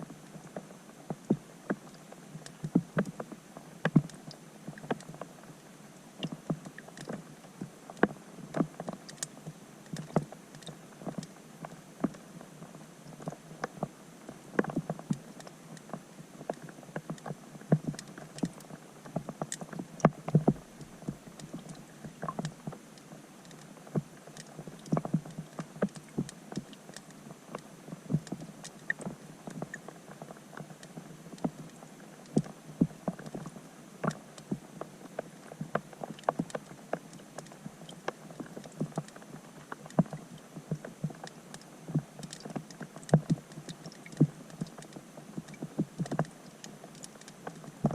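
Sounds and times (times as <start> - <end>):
raindrops heard underwater: 0.0 - 47.9.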